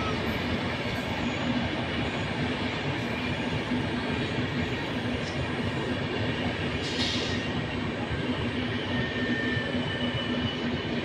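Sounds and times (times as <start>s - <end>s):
distant train running past: 0.0s - 11.0s.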